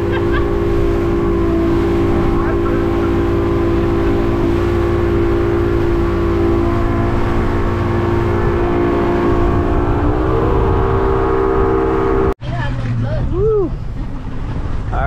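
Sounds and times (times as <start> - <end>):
rushing water and spray: 0.0 - 13.2
outboard motor drone: 0.0 - 15.0.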